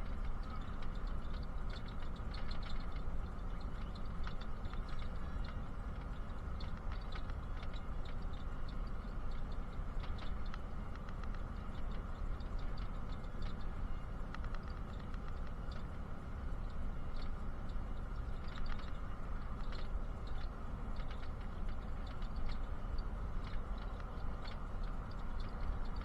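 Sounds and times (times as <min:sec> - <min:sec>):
bus rumbling from inside: 0:00.0 - 0:26.0
light ticks and rattles: 0:00.0 - 0:26.0.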